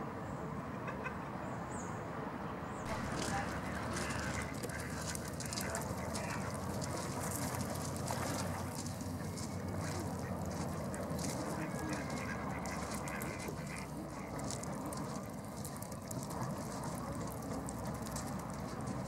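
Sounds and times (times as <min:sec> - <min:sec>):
faint waterfowl calls: 0:02.9 - 0:18.7.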